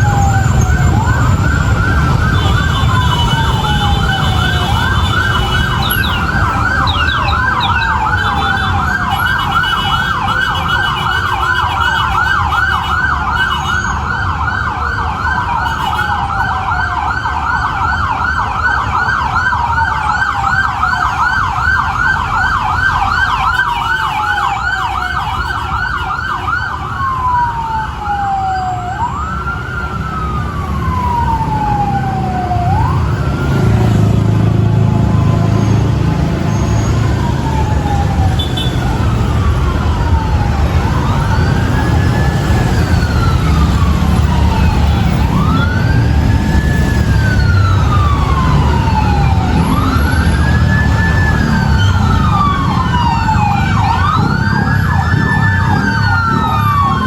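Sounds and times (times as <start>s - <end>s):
siren fast yelp: 0.0s - 34.0s, 34.7s - 57.0s
siren slow wail: 0.0s - 57.0s.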